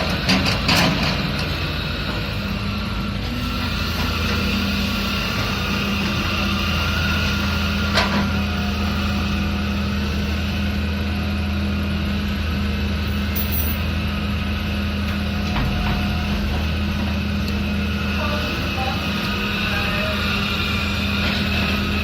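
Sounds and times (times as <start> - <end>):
construction machine engine humming: 0.0 - 22.0.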